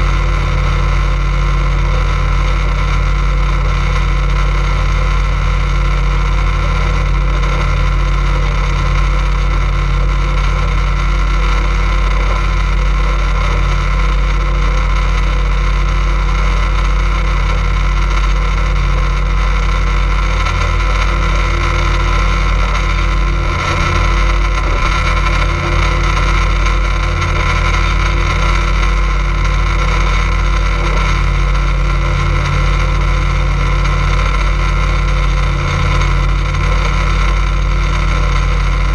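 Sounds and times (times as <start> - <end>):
boat motor running: 0.0 - 38.9.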